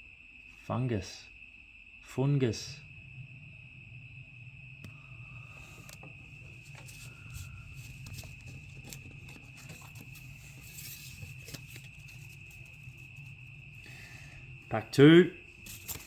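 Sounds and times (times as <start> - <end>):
faint high-pitched whine: 0.0 - 16.0
low hum: 1.3 - 16.0.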